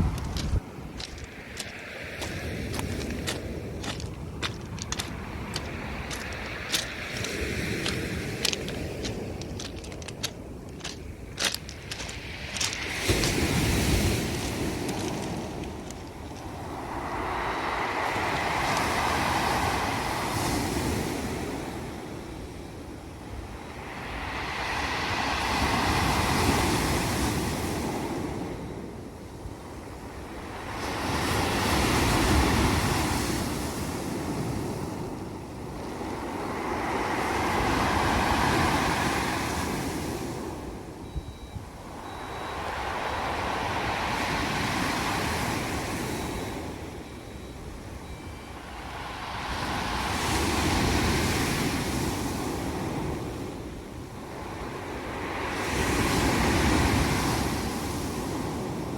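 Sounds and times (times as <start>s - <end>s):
waves on pebble beach: 0.0s - 58.9s.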